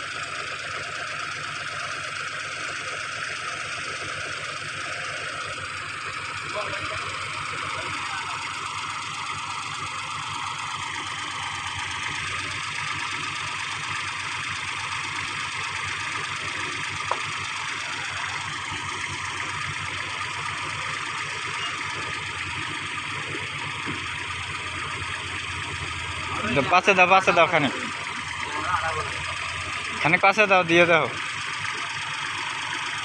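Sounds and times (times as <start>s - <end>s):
heavy machinery engine running: 0.0s - 33.0s.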